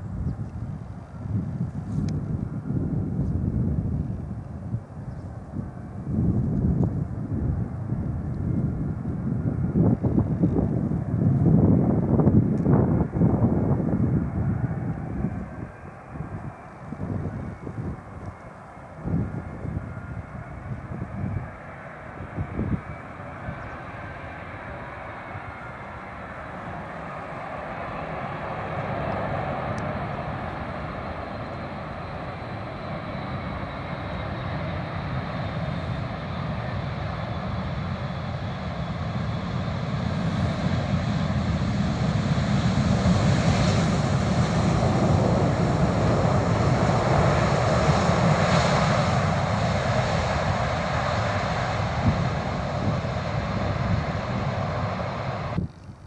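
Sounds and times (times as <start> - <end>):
jet engines roaring: 4.6 - 56.0.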